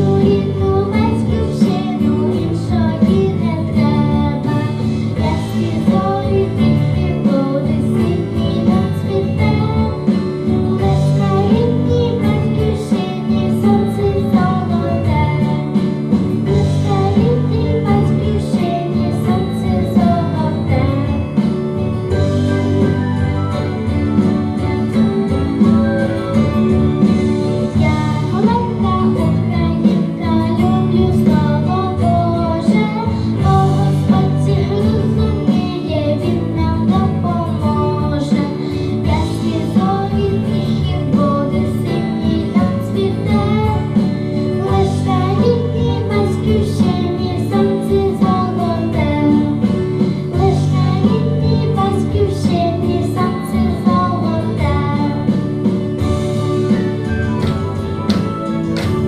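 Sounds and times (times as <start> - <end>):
girl singing: 0.0 - 22.3, 27.6 - 55.7
instrumental accompaniment: 0.0 - 59.0.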